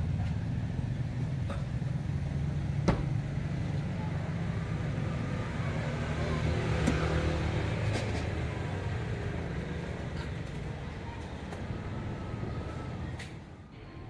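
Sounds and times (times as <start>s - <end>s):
vehicle passing with low rumble: 0.0s - 13.7s.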